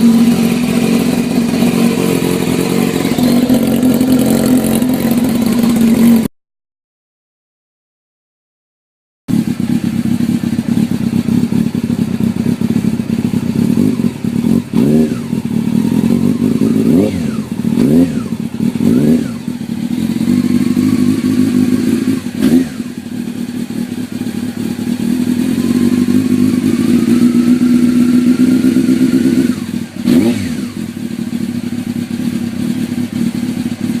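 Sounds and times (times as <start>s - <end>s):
motorcycle engine idling: 0.0s - 6.3s, 9.3s - 34.0s
motorcycle throttle blips: 0.0s - 6.3s, 9.3s - 34.0s.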